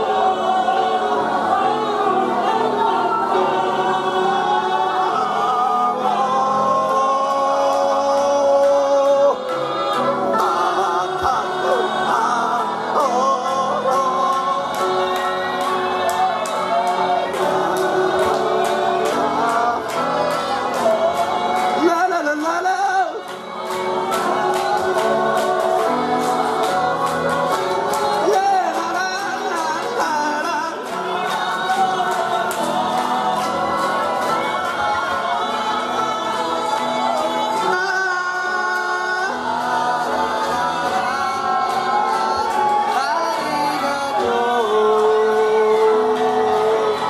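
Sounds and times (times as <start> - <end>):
group of voices singing: 0.0 - 47.0.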